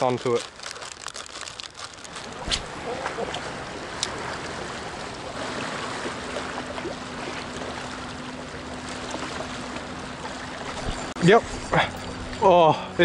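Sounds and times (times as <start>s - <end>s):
waves lapping around rocks: 0.0s - 13.0s.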